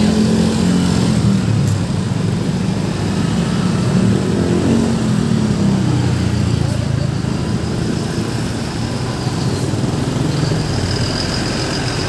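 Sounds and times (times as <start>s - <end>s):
passing vehicle engines rumbling: 0.0s - 12.0s.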